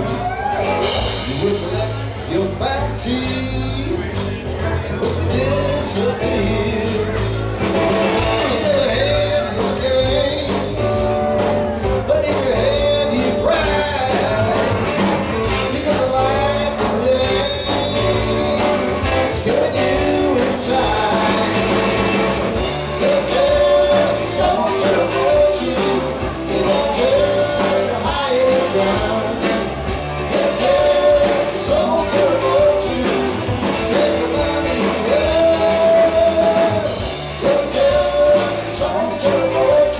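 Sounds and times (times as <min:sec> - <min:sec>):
drum kit: 0:00.0 - 0:39.9
electric bass: 0:00.0 - 0:39.9
electric guitar: 0:00.0 - 0:39.9
man singing: 0:00.0 - 0:39.9.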